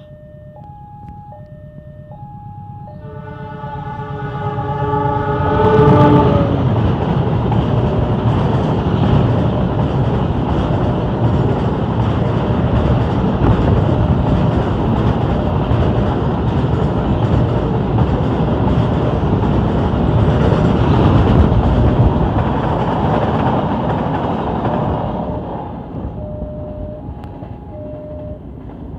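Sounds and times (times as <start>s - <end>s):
train wheels rumbling on rails: 3.3s - 28.9s.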